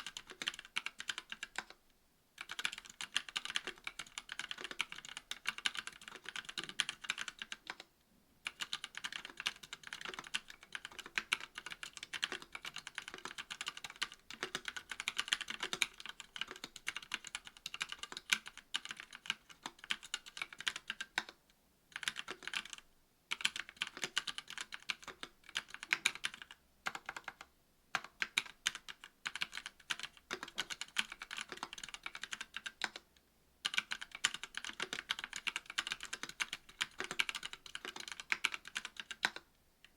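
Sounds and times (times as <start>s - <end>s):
mechanical keyboard typing: 0.0s - 1.8s, 2.4s - 21.4s, 22.0s - 33.0s, 33.6s - 39.9s.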